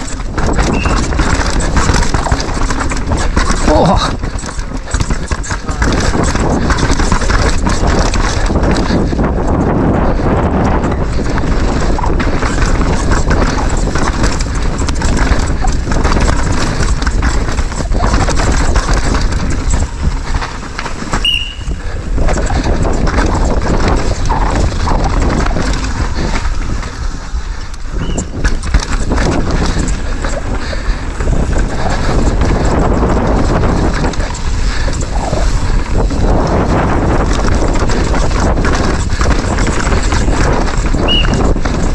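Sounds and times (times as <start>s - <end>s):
bike chain and frame rattling: 0.0s - 41.9s
tyres crunching on dirt: 0.0s - 41.9s
wind rush on microphone: 0.0s - 41.9s.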